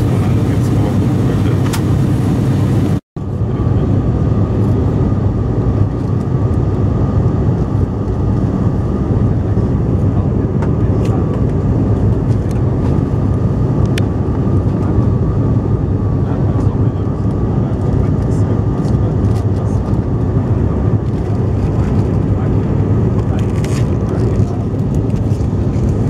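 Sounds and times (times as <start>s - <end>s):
airliner cabin engine rush: 0.0s - 26.0s.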